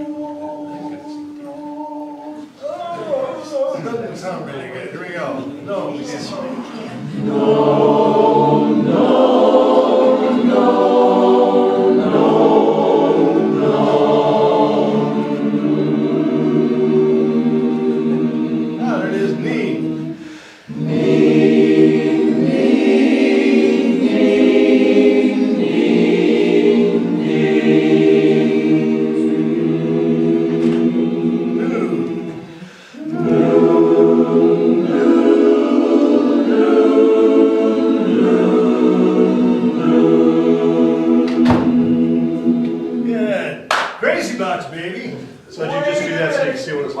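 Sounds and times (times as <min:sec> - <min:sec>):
a cappella chorus singing: 0:00.0 - 0:43.8.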